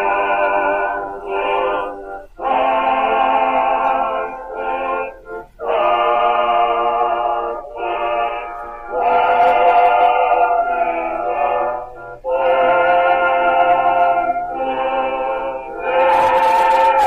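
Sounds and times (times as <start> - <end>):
slow music with long held notes: 0.0 - 17.0.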